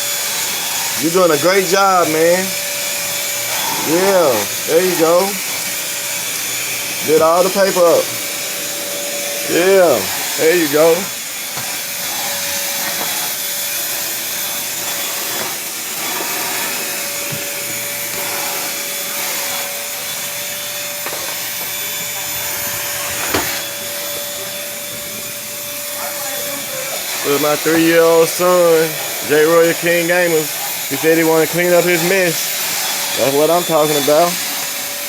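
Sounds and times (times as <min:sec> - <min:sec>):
vacuum cleaner whine: 0:00.0 - 0:35.0.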